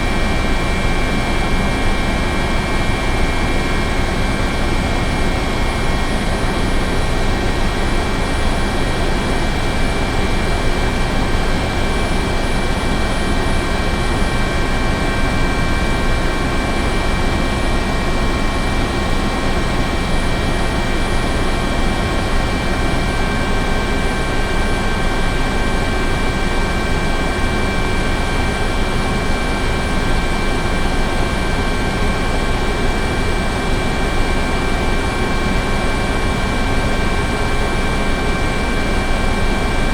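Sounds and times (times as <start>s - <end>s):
helicopter engine and rotor rush: 0.0s - 39.9s
helicopter turbine whine: 0.0s - 39.9s.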